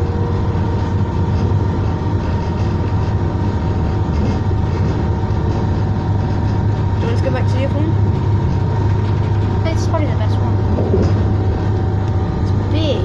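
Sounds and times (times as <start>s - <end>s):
thin steady whine: 0.0s - 13.0s
train running fast: 0.0s - 13.0s.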